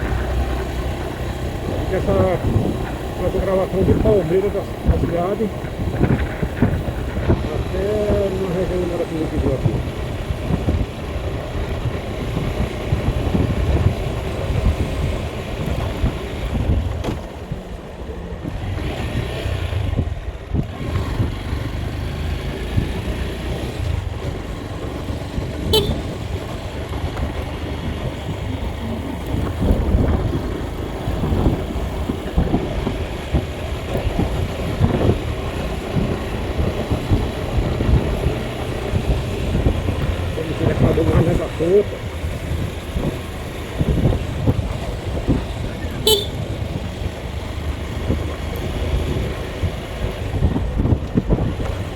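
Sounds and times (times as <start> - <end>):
engine and road noise rumble: 0.0 - 51.9.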